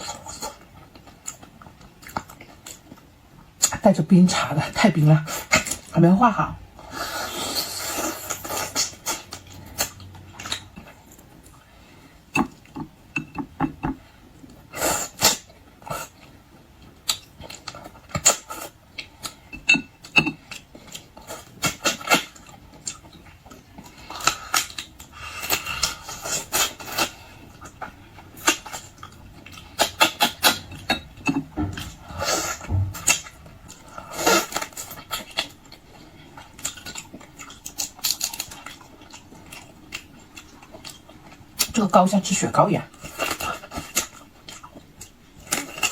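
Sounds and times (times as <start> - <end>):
crunching and smacking while eating: 0.0 - 45.9.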